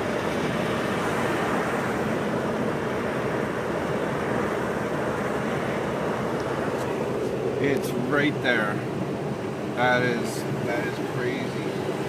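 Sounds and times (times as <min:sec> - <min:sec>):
truck road and engine noise: 0:00.0 - 0:12.0.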